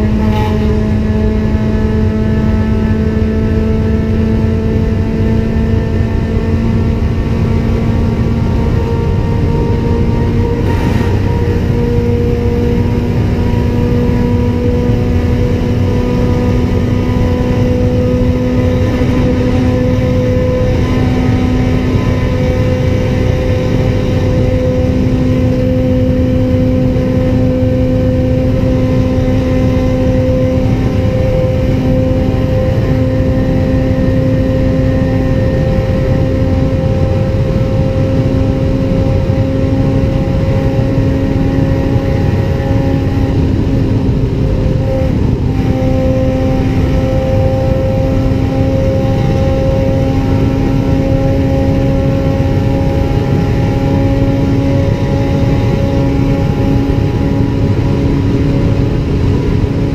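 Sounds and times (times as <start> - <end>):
car engine droning at high revs: 0.0 - 59.9.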